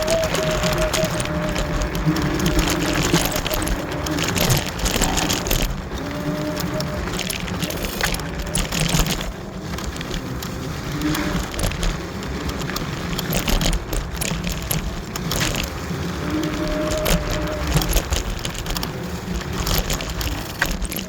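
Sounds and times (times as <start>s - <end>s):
tyres rolling over rough path: 0.0s - 21.0s
wind buffeting microphone: 0.0s - 21.0s.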